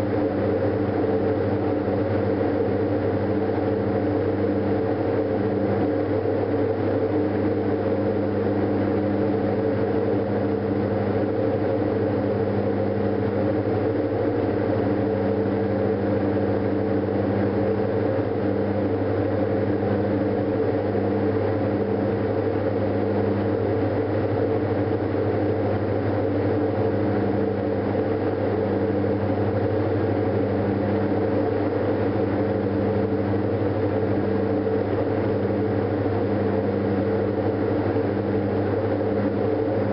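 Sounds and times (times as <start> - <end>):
aircraft engines droning in cabin: 0.0 - 39.9.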